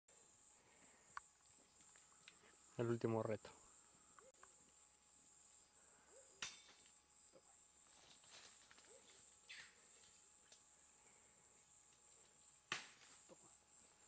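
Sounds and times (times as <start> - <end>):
high-pitched insect chorus: 0.1 - 14.0.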